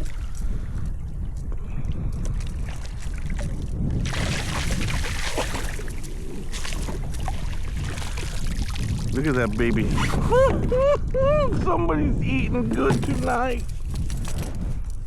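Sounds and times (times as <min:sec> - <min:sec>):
water sloshing and splashing: 0:00.0 - 0:10.9, 0:12.6 - 0:15.0
steady low rumble: 0:00.0 - 0:15.0.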